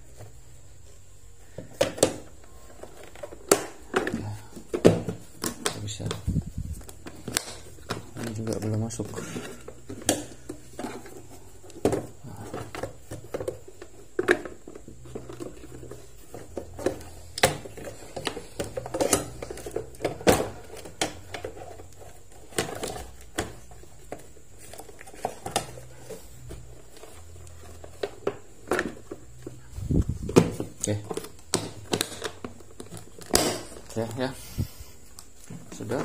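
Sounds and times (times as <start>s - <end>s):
plastic toolbox knocks and rattles: 1.6s - 6.2s, 7.0s - 29.4s, 30.1s - 34.2s.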